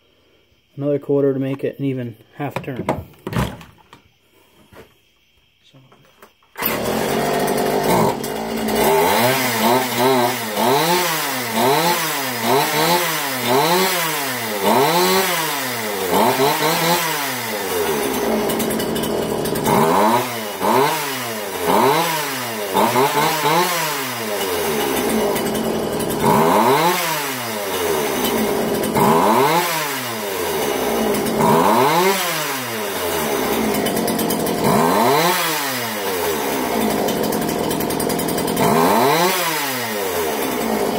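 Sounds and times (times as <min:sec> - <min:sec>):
chainsaw idling and revving: 0:06.6 - 0:40.9.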